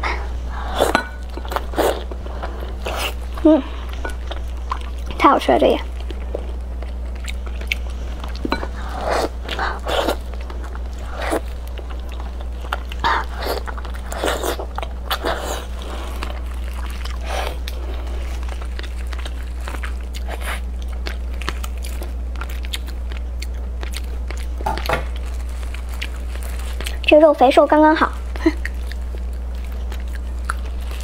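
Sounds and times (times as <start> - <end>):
steady low hum: 0.0 - 31.0
chewing and biting: 0.8 - 27.1, 28.3 - 31.0.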